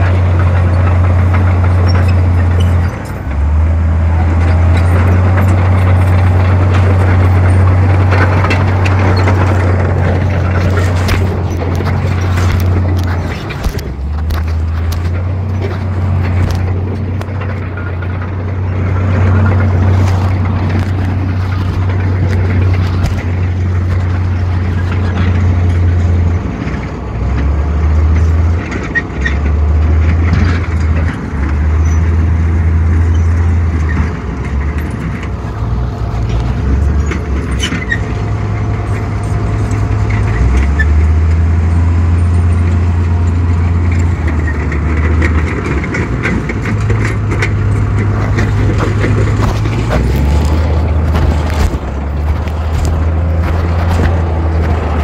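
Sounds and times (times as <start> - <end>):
heavy diesel machinery droning: 0.0 - 55.0.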